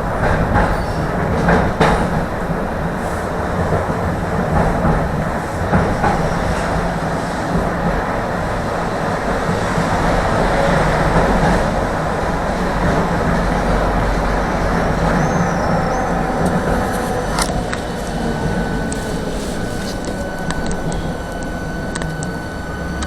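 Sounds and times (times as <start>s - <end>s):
tram wheels rumbling on rail: 0.0s - 23.0s.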